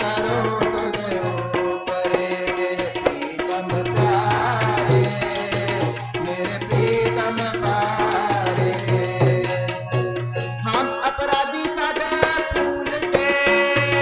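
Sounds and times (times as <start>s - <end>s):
harmonium: 0.0s - 14.0s
tabla rhythm: 0.0s - 14.0s.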